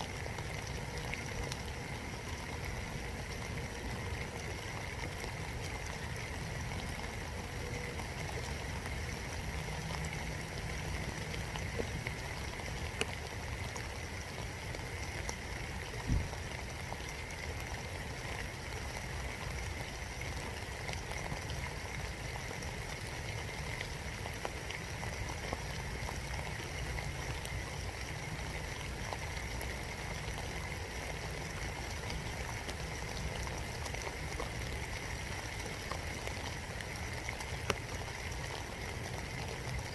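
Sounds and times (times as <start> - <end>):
steady rain hiss: 0.0 - 39.9
raindrops tapping: 0.1 - 39.9.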